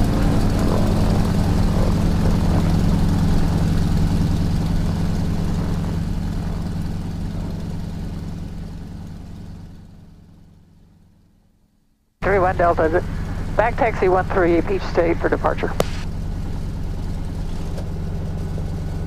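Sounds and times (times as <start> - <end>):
propeller plane engine running: 0.0 - 19.0.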